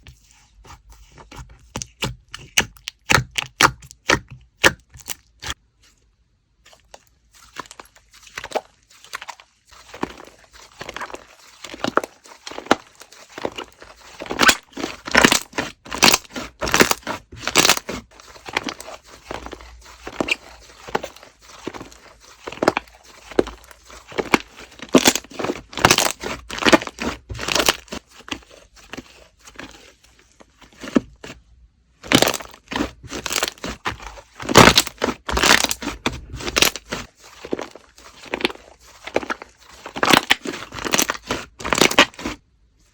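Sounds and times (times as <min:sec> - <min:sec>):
slime squishing and popping: 0:01.7 - 0:05.6, 0:06.8 - 0:28.4, 0:32.0 - 0:42.4.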